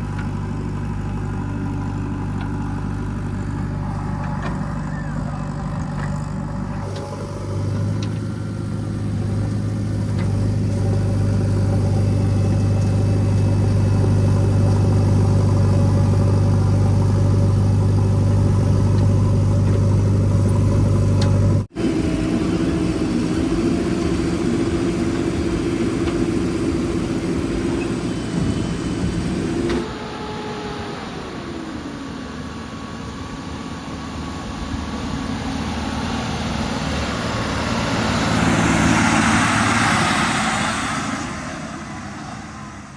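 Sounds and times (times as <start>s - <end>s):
heavy machinery diesel engines: 0.0s - 42.9s.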